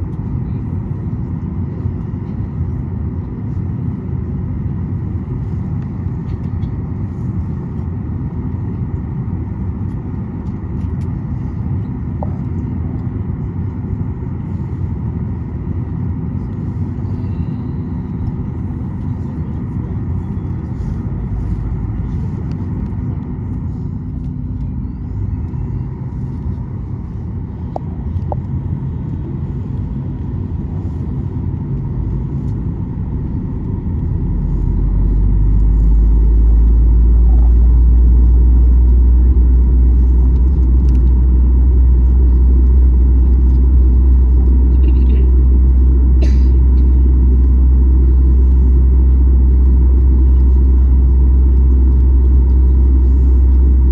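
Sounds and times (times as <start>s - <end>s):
airplane cabin rumble: 0.0s - 53.9s.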